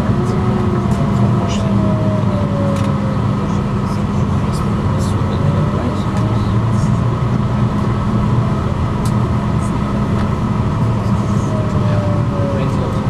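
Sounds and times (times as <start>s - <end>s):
bus engine hum: 0.0s - 13.0s
road rumble: 0.0s - 13.0s.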